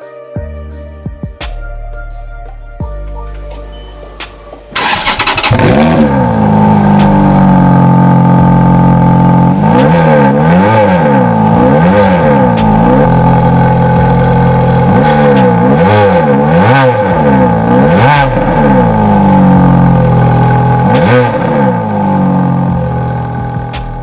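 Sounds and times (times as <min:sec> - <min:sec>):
sports car engine revving: 0:03.3 - 0:24.0.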